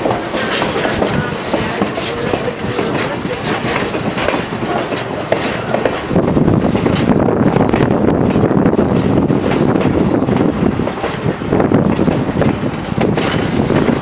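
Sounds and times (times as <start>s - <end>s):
train wheels rumbling on rail: 0.0s - 14.0s
wheels clacking over rail joints: 0.0s - 14.0s.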